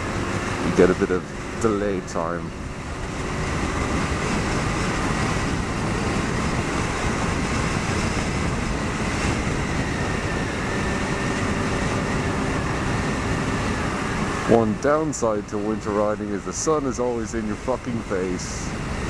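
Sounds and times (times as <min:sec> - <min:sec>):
motorcycle engine drone: 0:00.0 - 0:19.0
wind and road noise: 0:00.0 - 0:19.0.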